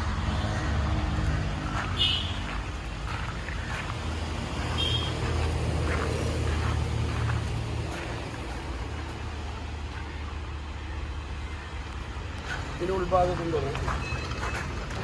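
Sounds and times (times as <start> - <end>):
motor vehicle engine rumbling: 0.0 - 15.0.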